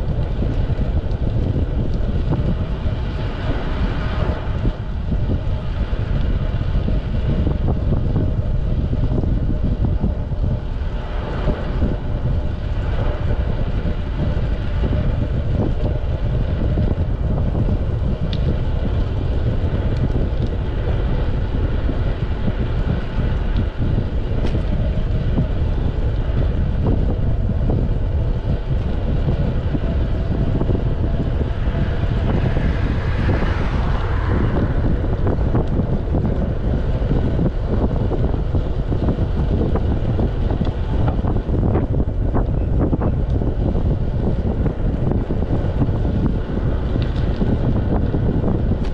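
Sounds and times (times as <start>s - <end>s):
constant low rumble: 0.0s - 48.9s
wind buffeting microphone: 0.0s - 48.9s.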